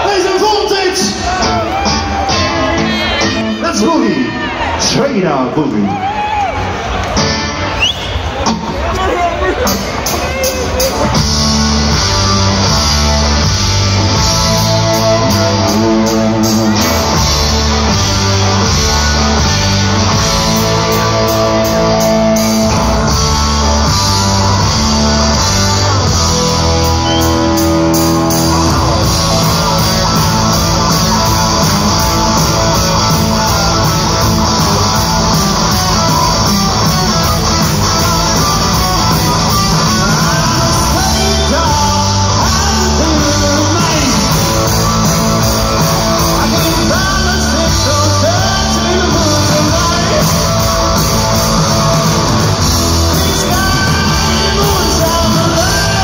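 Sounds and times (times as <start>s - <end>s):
live rock band instrumental: 0.0s - 56.0s.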